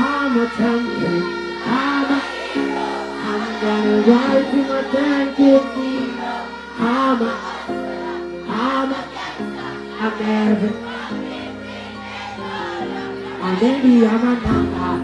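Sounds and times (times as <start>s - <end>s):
music with singing voice: 0.0s - 15.0s.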